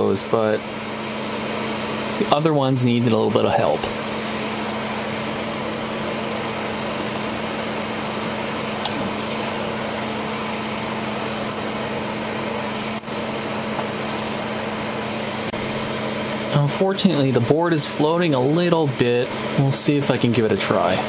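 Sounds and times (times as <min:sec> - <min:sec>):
fan whirring hum: 0:00.0 - 0:21.0.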